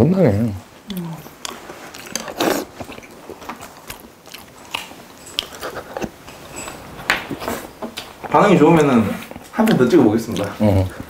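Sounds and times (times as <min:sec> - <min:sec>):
biting and chewing sounds: 0:00.9 - 0:08.4, 0:09.2 - 0:11.0.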